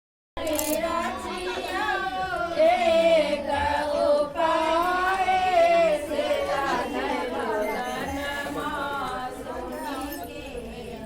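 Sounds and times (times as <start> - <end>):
women singing devotional song: 0.4 - 11.0.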